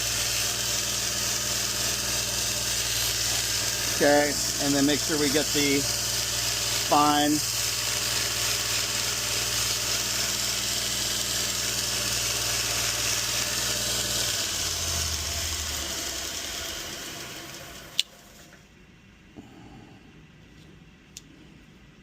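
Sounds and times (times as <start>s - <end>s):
belt grinder motor hum: 0.0s - 18.1s.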